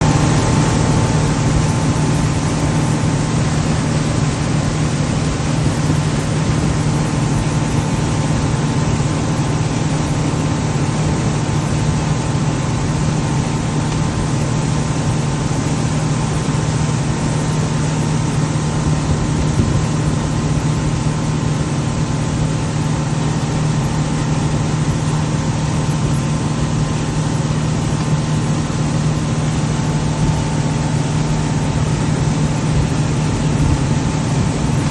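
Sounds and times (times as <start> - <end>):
constant rushing hiss: 0.0 - 34.9
outboard motor humming: 0.0 - 34.9.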